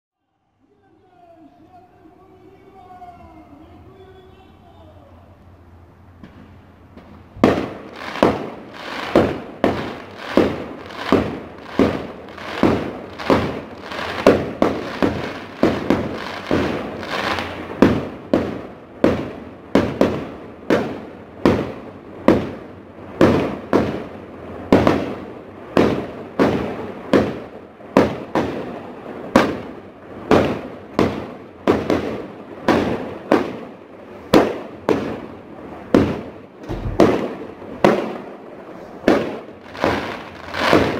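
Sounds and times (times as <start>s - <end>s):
fireworks bangs echoing: 6.1s - 40.9s.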